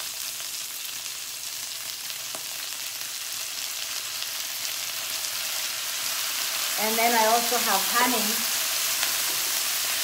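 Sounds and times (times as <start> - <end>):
chicken sizzling in fat: 0.0 - 10.0.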